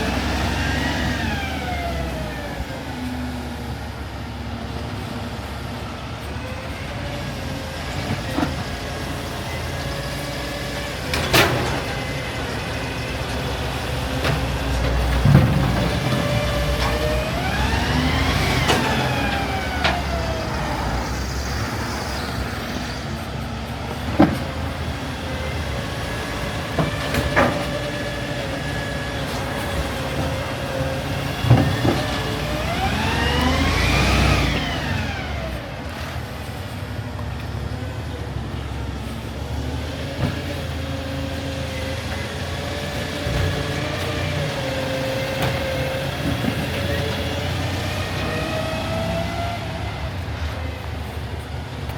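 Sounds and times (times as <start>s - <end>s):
garbage truck engine revving: 0.0s - 51.9s.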